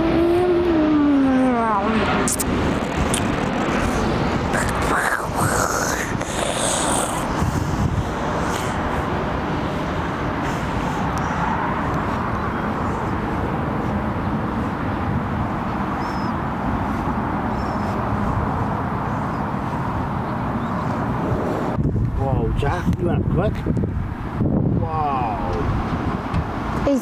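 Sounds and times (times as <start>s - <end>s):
jet engines at takeoff: 0.0s - 27.0s.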